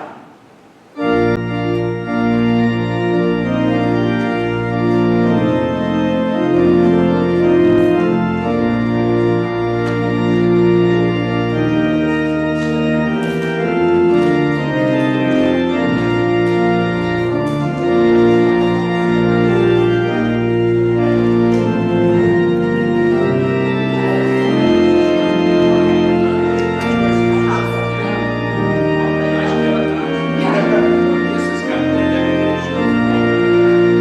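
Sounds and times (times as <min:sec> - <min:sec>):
church organ chords: 0:00.0 - 0:34.0.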